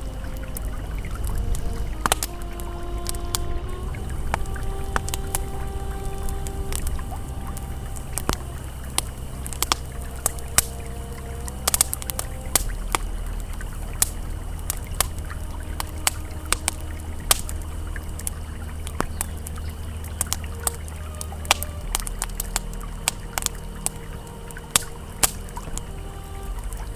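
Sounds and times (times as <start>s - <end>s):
campfire crackling: 0.0s - 26.9s
faint ambient tones: 0.0s - 26.9s
river water flowing: 0.0s - 26.9s.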